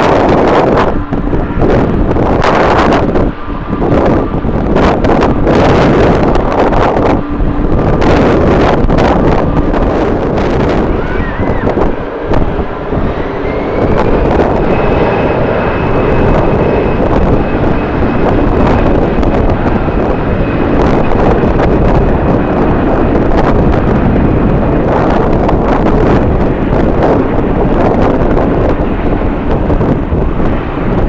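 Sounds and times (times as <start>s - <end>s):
jet engine whine: 0.0s - 31.0s
wind buffeting microphone: 0.0s - 31.0s.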